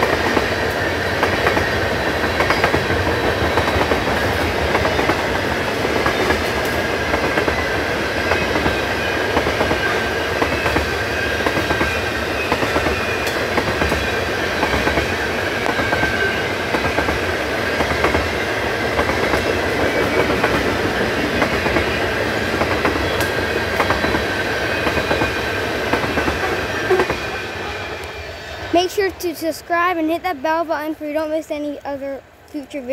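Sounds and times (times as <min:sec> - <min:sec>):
wheels clacking over rail joints: 0:00.0 - 0:28.2
freight train rumble: 0:00.0 - 0:32.9.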